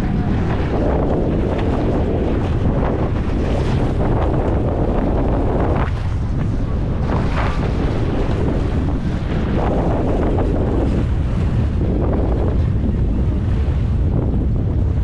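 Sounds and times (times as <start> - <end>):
water rushing along a hull: 0.0 - 15.0
wind buffeting microphone: 0.0 - 15.0.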